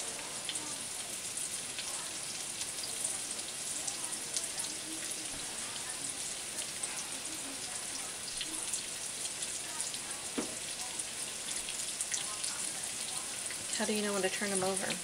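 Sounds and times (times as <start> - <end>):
zucchini frying in oil: 0.0 - 15.0.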